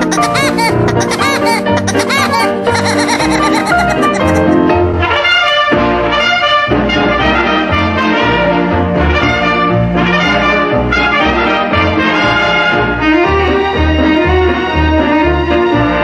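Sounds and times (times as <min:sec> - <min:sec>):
brass background music: 0:00.0 - 0:16.0.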